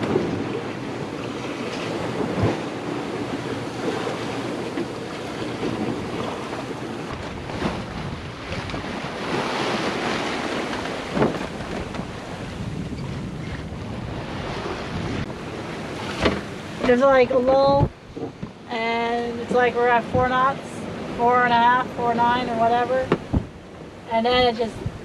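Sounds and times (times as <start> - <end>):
water rushing along hull: 0.0 - 25.0
wind buffeting microphone: 0.0 - 25.0.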